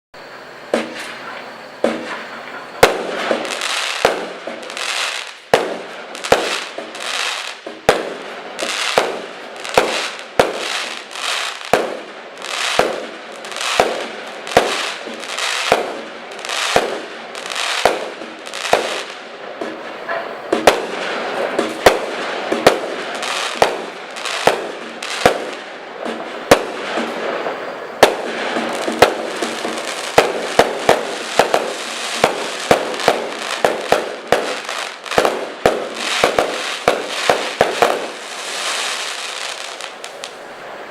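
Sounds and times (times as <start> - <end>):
firework bangs: 0.2 - 40.9
firework rushing hiss: 0.2 - 40.9.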